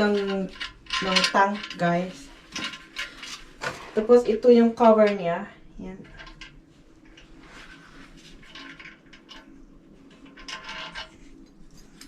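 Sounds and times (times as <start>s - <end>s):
rubbing and scraping of parts: 0.0s - 4.4s, 6.0s - 12.0s.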